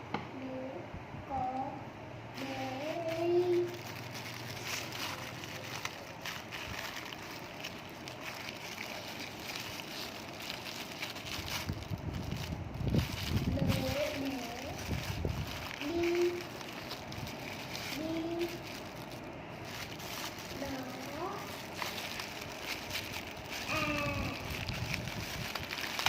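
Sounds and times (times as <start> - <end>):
person speaking: 2.4 - 10.4, 12.9 - 26.0.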